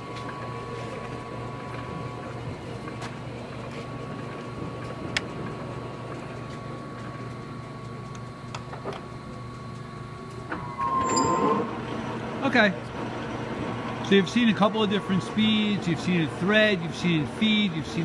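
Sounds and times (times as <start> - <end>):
lathe humming and whining: 0.0 - 18.0.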